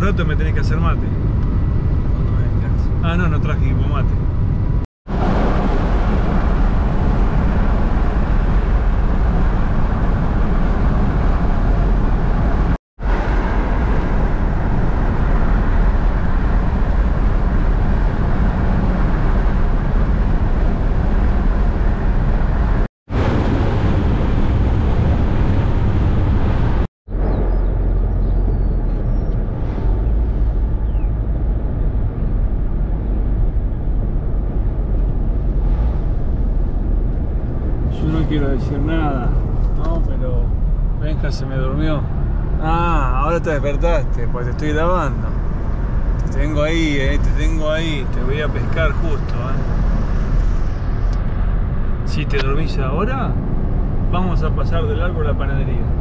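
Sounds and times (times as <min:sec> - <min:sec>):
road and engine noise in car: 0:00.0 - 0:56.0.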